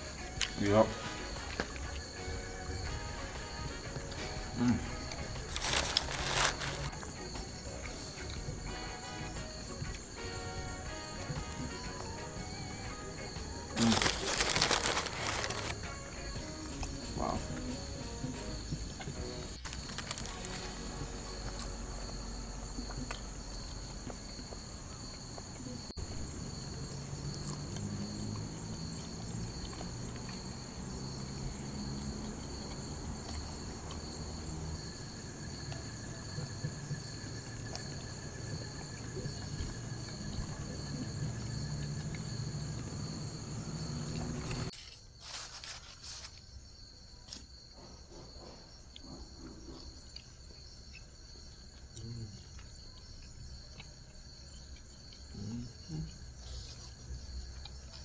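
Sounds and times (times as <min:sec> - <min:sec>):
crickets and insects shrilling: 0:00.0 - 0:58.0.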